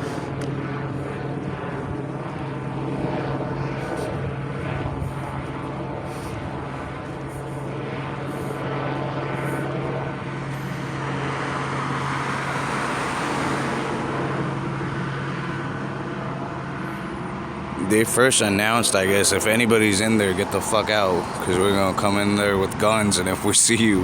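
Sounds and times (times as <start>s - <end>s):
helicopter engine and rotor drone: 0.0s - 24.0s.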